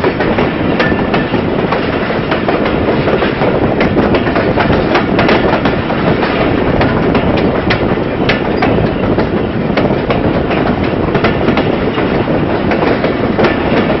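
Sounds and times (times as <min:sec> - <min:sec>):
train rumble and rushing air: 0:00.0 - 0:14.0
wheels clattering over track: 0:00.0 - 0:14.0.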